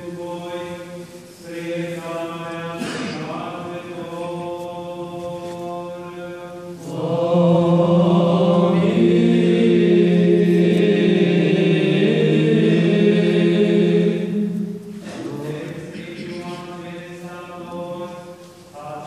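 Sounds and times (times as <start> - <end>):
choir chanting: 0.0 - 19.0.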